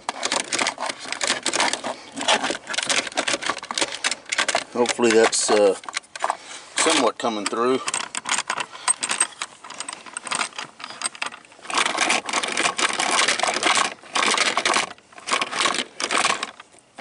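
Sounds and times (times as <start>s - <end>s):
plastic and metal clicking and rattling: 0.0s - 17.0s
scraping and rubbing: 0.0s - 17.0s.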